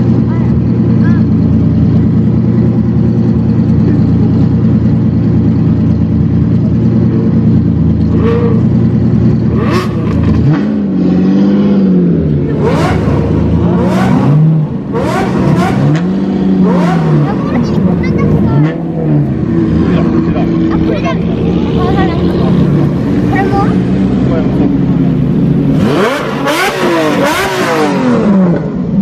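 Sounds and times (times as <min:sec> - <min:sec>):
car engines idling: 0:00.0 - 0:29.0
car engine revving pulling away: 0:02.0 - 0:29.0.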